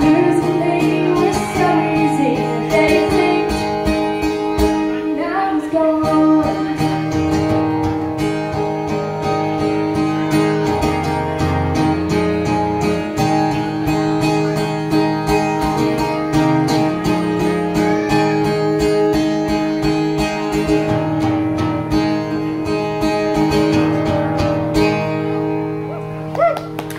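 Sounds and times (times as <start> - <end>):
acoustic guitar strumming: 0.0 - 26.9.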